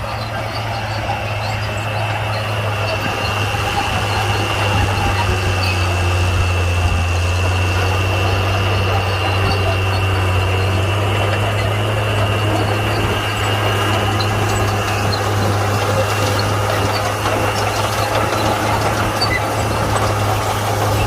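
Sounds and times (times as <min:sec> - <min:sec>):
bulldozer diesel engine running: 0:00.0 - 0:21.0
high engine whine: 0:00.0 - 0:21.0.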